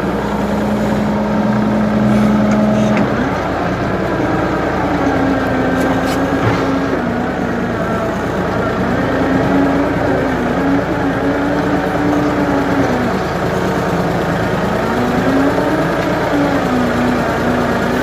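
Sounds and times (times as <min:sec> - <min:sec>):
backhoe engine running: 0:00.0 - 0:18.0.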